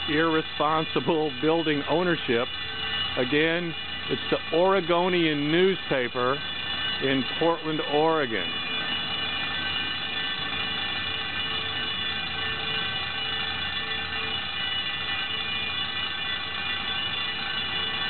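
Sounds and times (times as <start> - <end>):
fire alarm ringing: 0.0 - 18.0.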